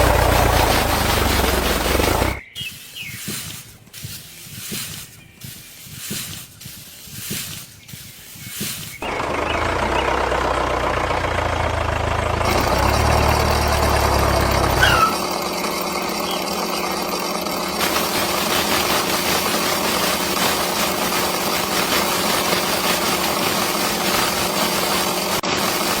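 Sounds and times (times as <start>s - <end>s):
small motor running: 0.0s - 26.0s.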